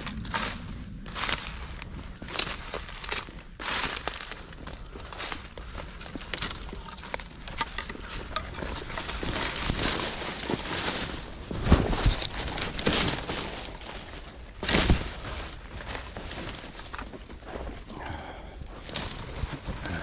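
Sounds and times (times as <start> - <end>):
footsteps crunching through dry leaves: 0.0 - 16.7
twigs crackling: 0.0 - 20.0.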